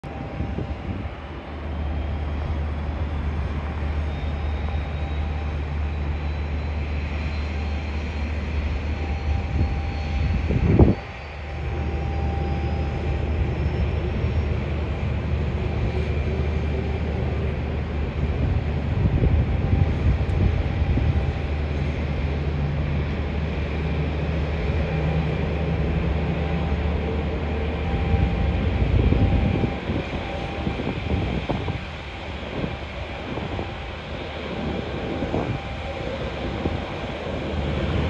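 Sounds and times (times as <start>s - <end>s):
distant jet engines rumbling: 0.0s - 38.0s
jet engine whine: 0.0s - 38.0s.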